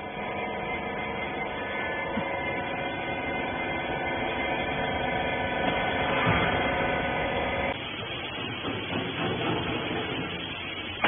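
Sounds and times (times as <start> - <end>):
baling machine motor humming: 0.0 - 11.0.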